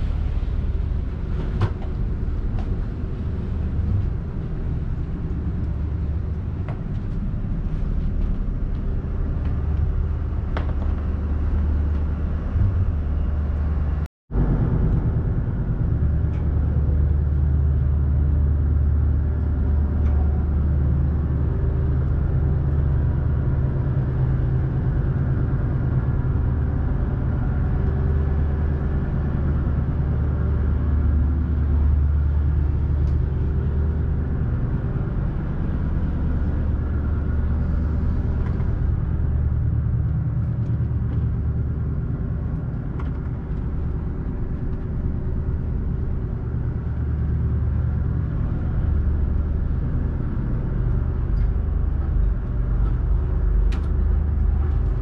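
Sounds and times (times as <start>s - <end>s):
boat engine drone: 0.0s - 55.0s.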